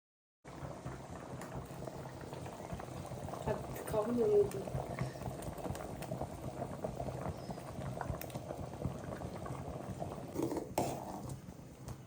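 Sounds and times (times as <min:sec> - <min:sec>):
curry bubbling in a pot: 0:00.5 - 0:12.0.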